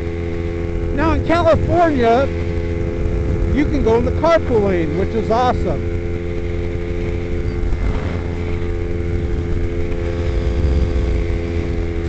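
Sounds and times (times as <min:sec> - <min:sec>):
motorcycle engine cruising: 0:00.0 - 0:12.0
wind rumble on microphone: 0:00.0 - 0:12.0.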